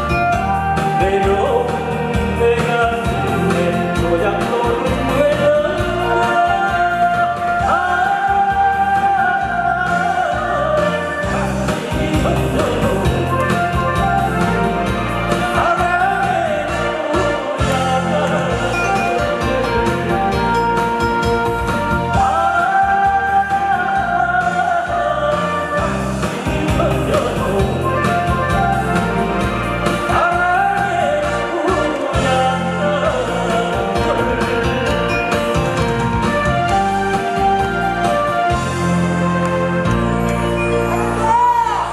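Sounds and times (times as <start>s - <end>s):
backing track with beat and bass: 0.0s - 41.9s
instrumental accompaniment: 0.0s - 41.9s
person singing with vibrato: 0.0s - 41.9s.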